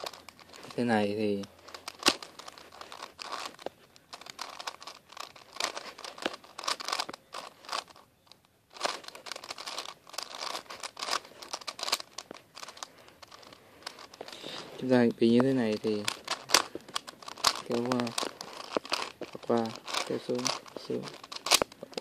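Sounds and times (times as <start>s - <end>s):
plastic puzzle cube clicking: 0.0s - 0.8s, 1.5s - 22.0s.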